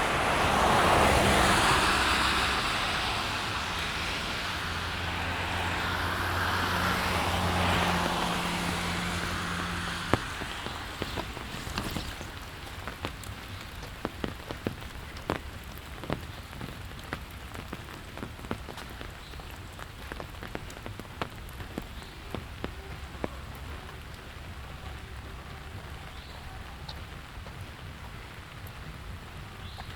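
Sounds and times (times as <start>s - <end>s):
large raindrops tapping: 0.0s - 29.9s
steady rain falling: 0.0s - 29.9s.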